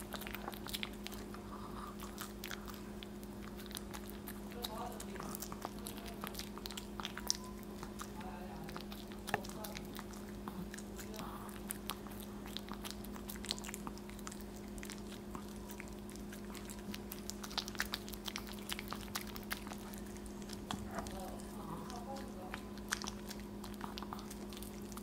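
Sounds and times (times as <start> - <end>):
dog chewing a potato: 0.0 - 25.0
low electrical hum: 0.0 - 25.0.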